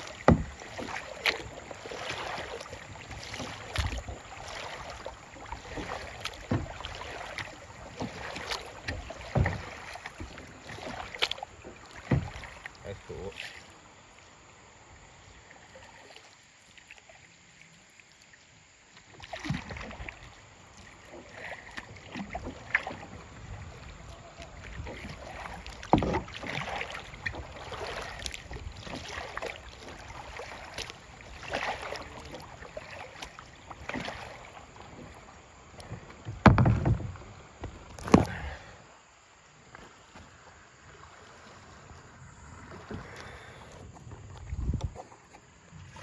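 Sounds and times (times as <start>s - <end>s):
paddle splashing in water: 0.0s - 46.0s.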